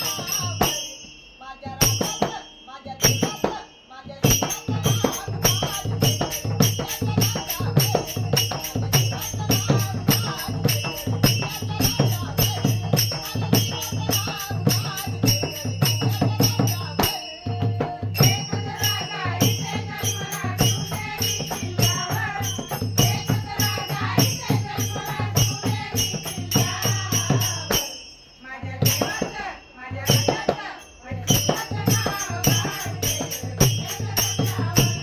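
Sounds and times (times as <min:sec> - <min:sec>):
jingling tambourine percussion: 0:00.0 - 0:35.0.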